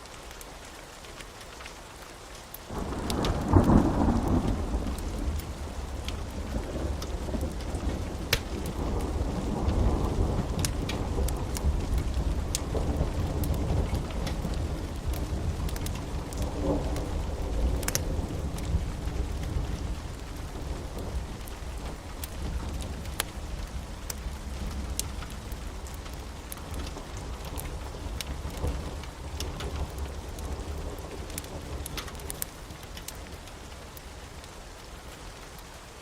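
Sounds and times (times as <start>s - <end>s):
sharp ticks of raindrops: 0.0s - 36.0s
steady rain: 0.0s - 36.0s
low rolling thunder: 2.7s - 33.4s.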